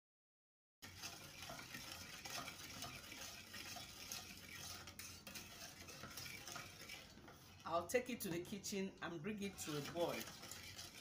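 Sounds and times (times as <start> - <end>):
wooden spoon stirring in saucepan: 0.8 - 11.0.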